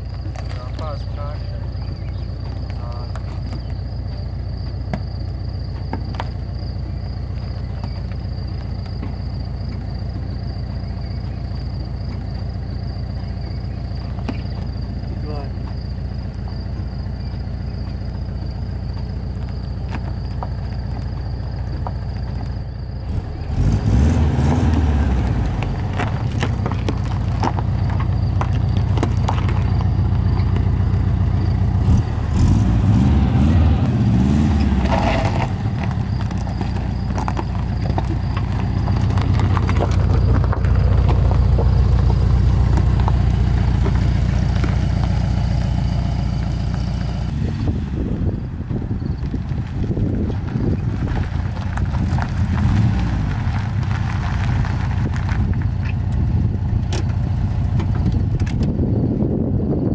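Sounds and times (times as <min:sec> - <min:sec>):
stones crunching under tyres: 0:00.0 - 0:59.3
car engine running: 0:00.0 - 0:59.9.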